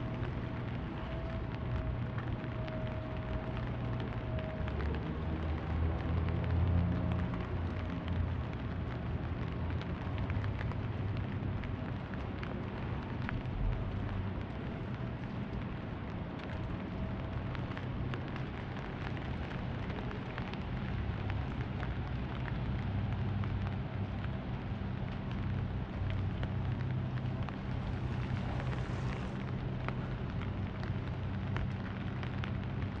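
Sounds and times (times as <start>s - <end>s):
low steady hum: 0.0s - 33.0s
rain pattering: 0.0s - 33.0s
water drips: 0.0s - 33.0s.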